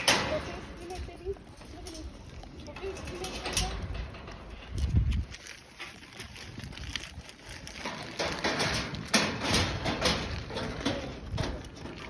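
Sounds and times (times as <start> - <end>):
rustling and crunching: 0.0 - 12.0
scrapes: 0.0 - 12.0.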